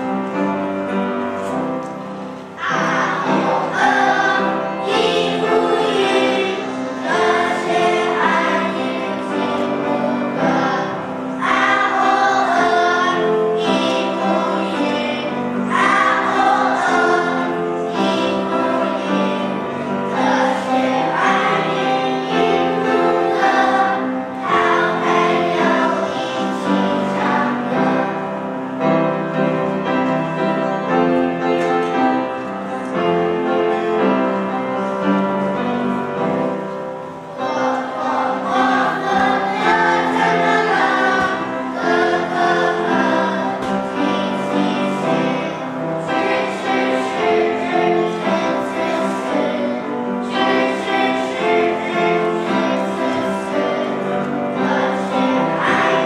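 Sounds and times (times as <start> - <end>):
children's choir singing: 0.0 - 56.0
instrumental accompaniment: 0.0 - 56.0.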